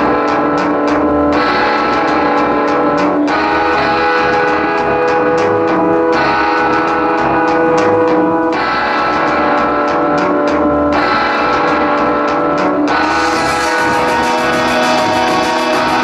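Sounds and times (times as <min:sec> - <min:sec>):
electric guitar chords: 0:00.0 - 0:16.0
rock band playing live: 0:00.0 - 0:16.0.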